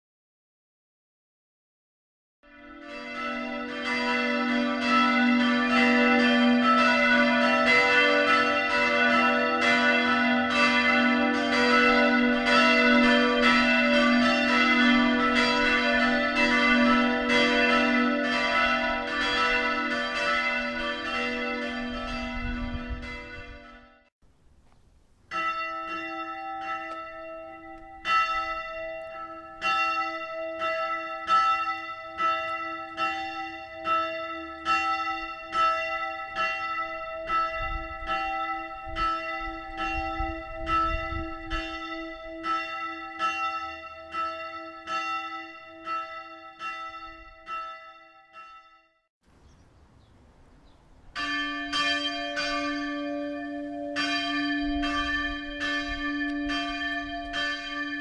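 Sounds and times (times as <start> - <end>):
lower church bell ringing: 2.4 - 24.1, 25.2 - 49.0, 50.8 - 58.0
higher church bell striking: 2.5 - 24.1, 25.3 - 48.8, 51.1 - 58.0.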